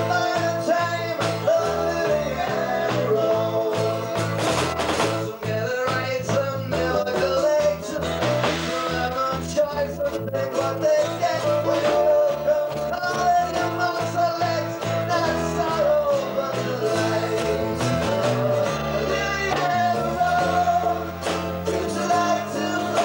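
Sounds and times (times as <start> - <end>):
acoustic guitars strumming: 0.0 - 23.0
man singing: 0.0 - 23.0.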